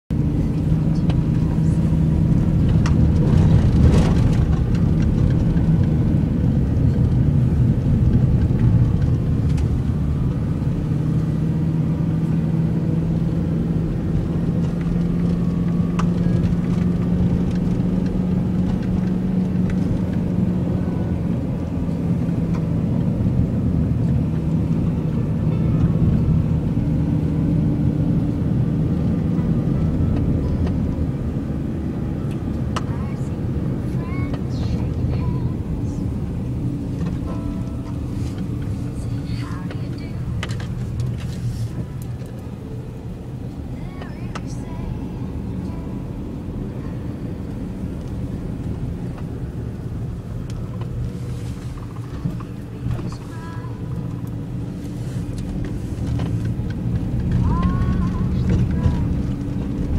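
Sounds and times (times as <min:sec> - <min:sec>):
engine drone: 0:00.1 - 0:59.9.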